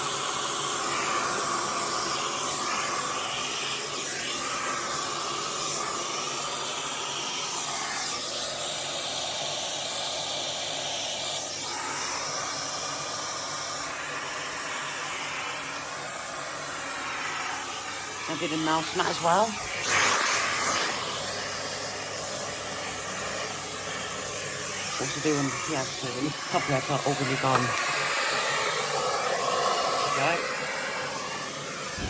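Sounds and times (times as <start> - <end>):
vacuum cleaner suction: 0.0 - 32.0.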